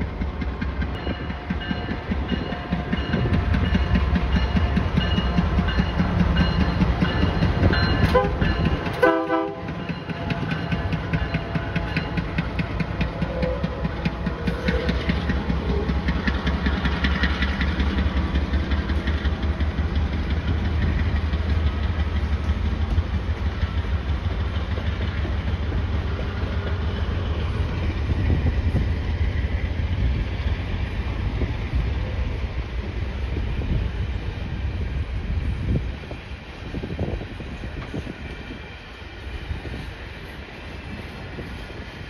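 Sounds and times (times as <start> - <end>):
locomotive engine rumbling: 0.0 - 42.0
train cars rolling on rails: 0.0 - 42.0.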